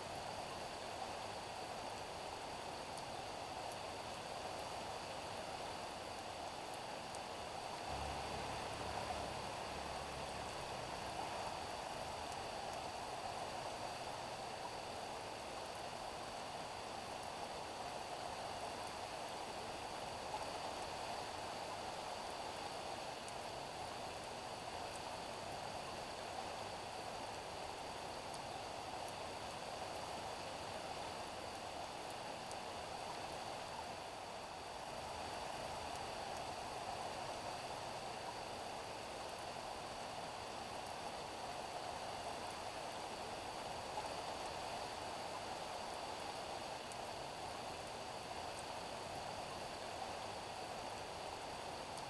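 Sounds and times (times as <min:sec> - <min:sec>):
rain falling on a street: 0:00.8 - 0:52.0.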